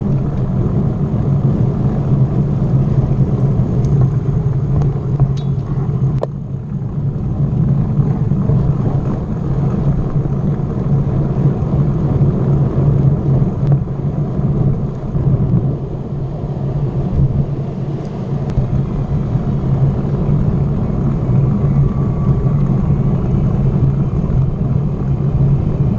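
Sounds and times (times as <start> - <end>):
road noise: 0.0 - 25.9
wind on microphone: 0.0 - 25.9.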